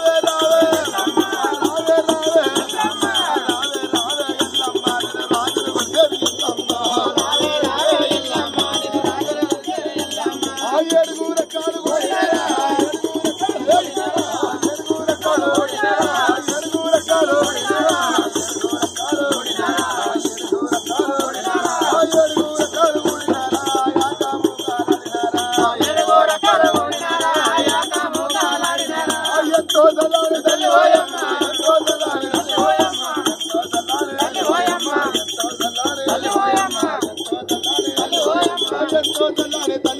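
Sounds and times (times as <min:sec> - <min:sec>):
ankle bells and rattles jingling: 0:00.0 - 0:39.9
men singing folk song: 0:00.0 - 0:39.9.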